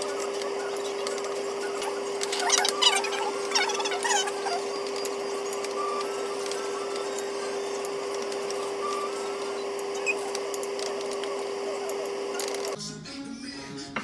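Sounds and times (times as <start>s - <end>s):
steady electrical hum: 0.0s - 12.8s.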